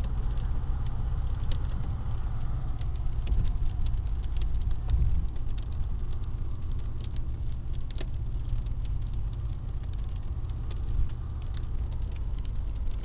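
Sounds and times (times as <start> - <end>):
road rumble inside a car: 0.0 - 13.0.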